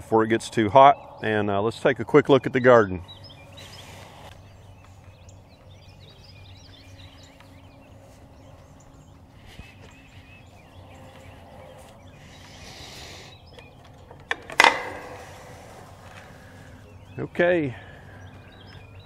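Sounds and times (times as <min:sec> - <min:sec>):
birds chirping and singing: 0:00.0 - 0:19.0.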